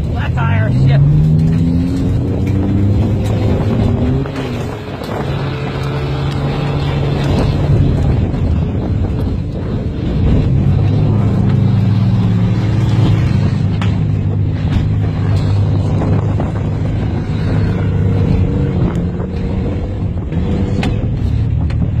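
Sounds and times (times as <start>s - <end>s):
race car engines running: 0.0s - 22.0s.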